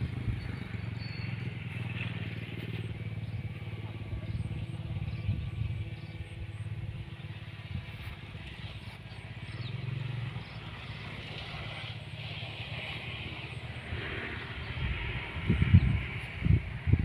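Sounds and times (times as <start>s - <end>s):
wind rumble on microphone: 0.0s - 11.9s, 12.5s - 17.0s
distant model airplane engine buzz: 0.0s - 17.0s.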